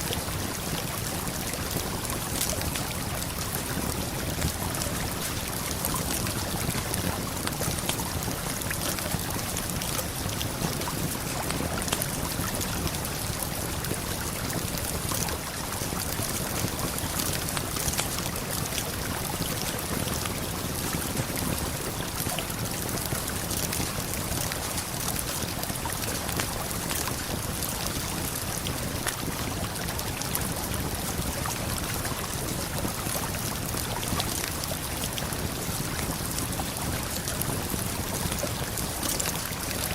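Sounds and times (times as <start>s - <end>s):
campfire crackles: 0.1s - 39.9s.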